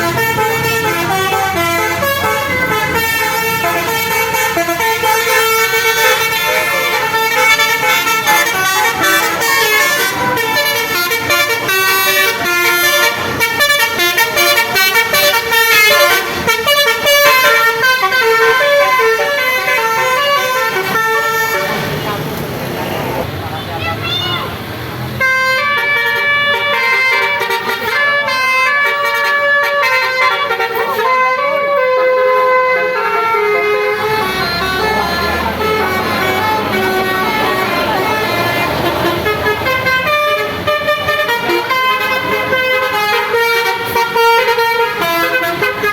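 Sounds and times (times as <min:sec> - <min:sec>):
bus musical horn melody: 0:00.0 - 0:23.2, 0:25.1 - 0:45.9.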